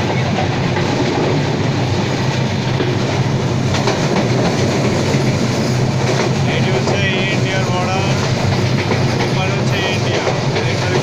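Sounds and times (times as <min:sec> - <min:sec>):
train rumbling: 0:00.0 - 0:11.0
wheels clacking on rails: 0:00.0 - 0:11.0.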